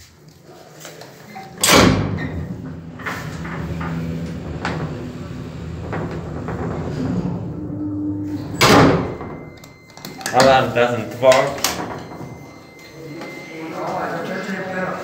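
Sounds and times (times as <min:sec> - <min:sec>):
elevator machinery humming: 0:01.5 - 0:15.0
elevator starting clunk: 0:01.6 - 0:13.7.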